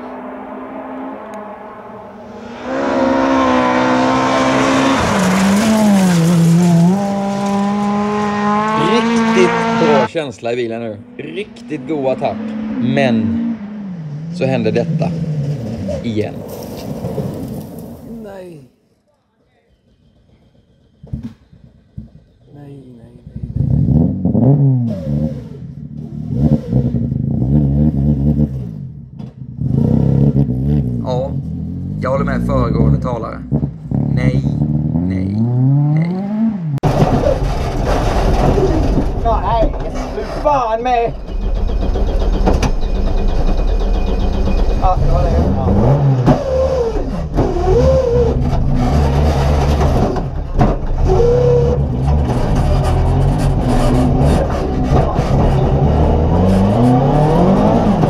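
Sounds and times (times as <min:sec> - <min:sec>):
car engine revving: 0:00.0 - 0:17.7, 0:23.2 - 0:58.0.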